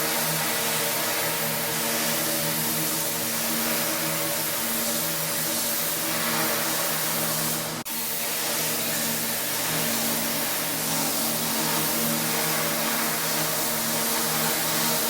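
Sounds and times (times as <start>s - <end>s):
high-pressure water spray hissing: 0.0s - 15.0s.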